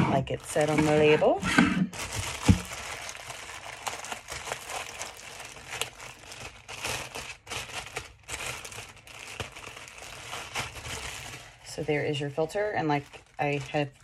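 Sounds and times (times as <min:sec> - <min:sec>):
plastic wrapping crinkling: 0:00.2 - 0:14.0.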